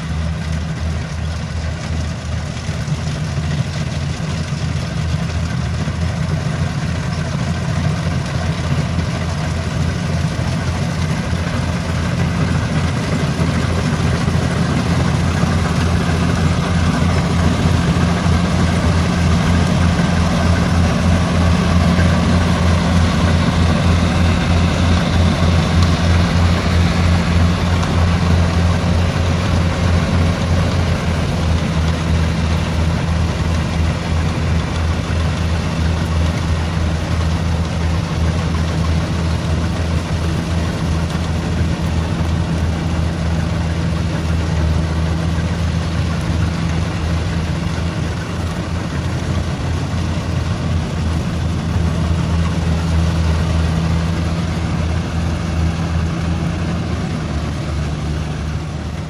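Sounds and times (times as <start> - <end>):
combine harvester engine drone: 0.0 - 59.0
mechanical rush of harvester: 0.0 - 59.0.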